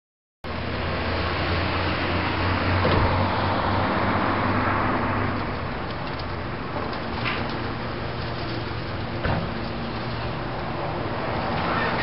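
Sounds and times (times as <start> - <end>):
street traffic: 0.4 - 12.0.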